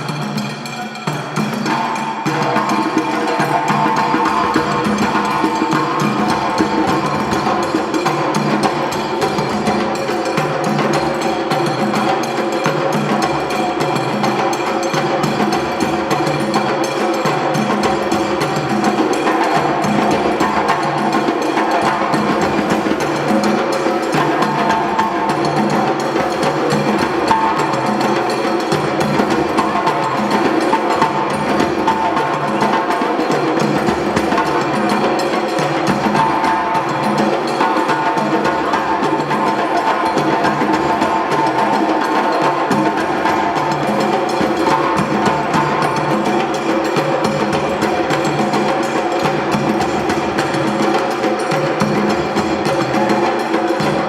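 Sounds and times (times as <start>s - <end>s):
drum ensemble playing: 0.0s - 54.0s.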